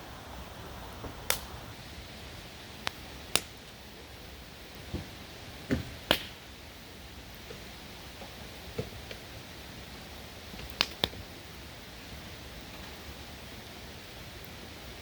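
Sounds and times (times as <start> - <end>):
campfire crackling: 0.0 - 15.0
fire popping: 0.0 - 15.0.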